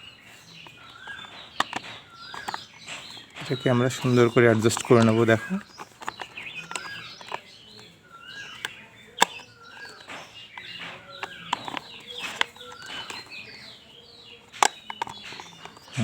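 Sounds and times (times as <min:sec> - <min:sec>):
birds chirping and clucking: 0:00.0 - 0:16.0
plastic toy parts clicking: 0:00.5 - 0:13.7, 0:14.4 - 0:16.0.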